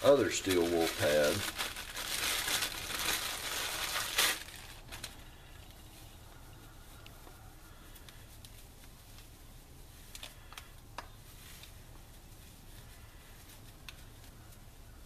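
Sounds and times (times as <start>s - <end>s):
scouring pad crinkling: 0.0s - 5.3s, 7.7s - 14.9s.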